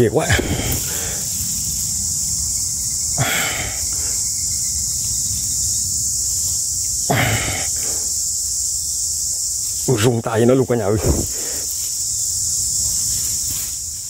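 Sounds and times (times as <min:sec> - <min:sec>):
high-pitched insects shrilling: 0:00.0 - 0:14.0.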